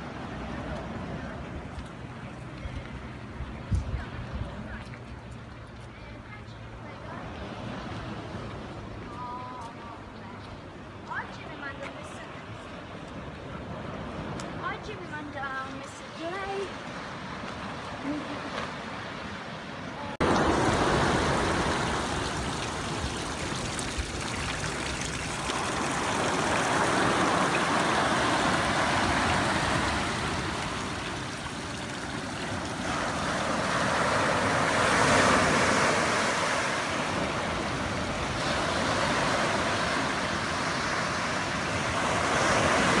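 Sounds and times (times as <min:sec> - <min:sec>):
sea waves washing onto shore: 0:06.9 - 0:43.0.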